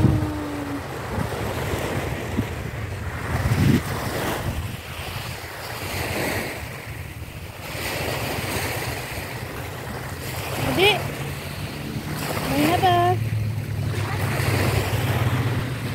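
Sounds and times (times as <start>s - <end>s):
small waves washing onto beach: 0.0s - 15.9s
wind buffeting microphone: 0.0s - 15.9s.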